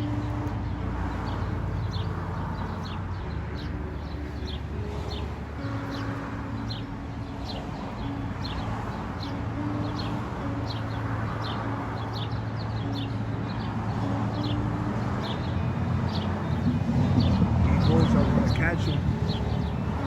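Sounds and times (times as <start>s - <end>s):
rushing background noise: 0.0s - 20.0s
sparrows chirping: 0.0s - 20.0s.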